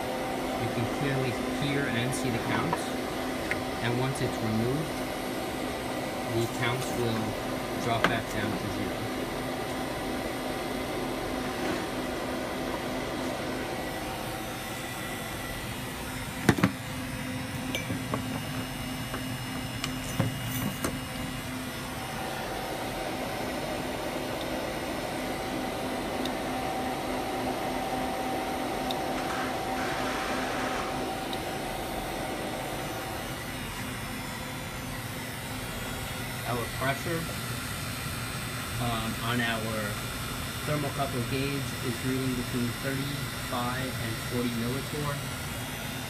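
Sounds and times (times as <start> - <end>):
mechanical hum and hiss: 0.0 - 46.0.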